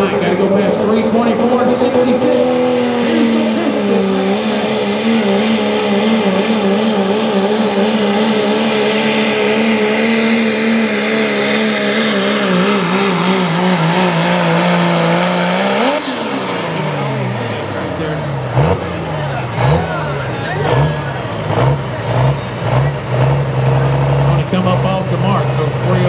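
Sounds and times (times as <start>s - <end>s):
diesel engine at full throttle: 0.0s - 26.0s.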